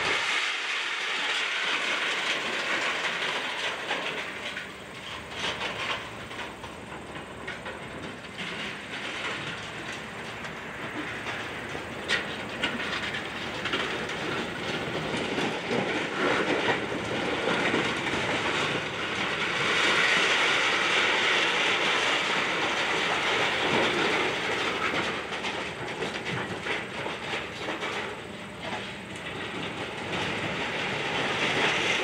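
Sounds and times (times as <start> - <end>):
debris crunching and clattering: 0.0 - 32.0
excavator engine running: 0.0 - 32.0.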